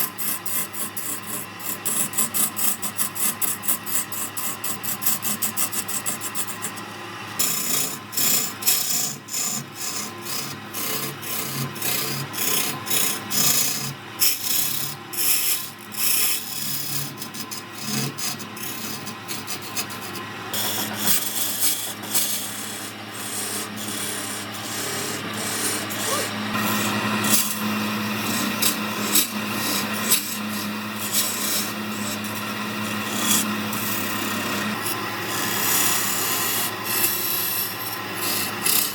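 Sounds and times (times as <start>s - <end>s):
tool scraping wood on lathe: 0.0s - 38.9s.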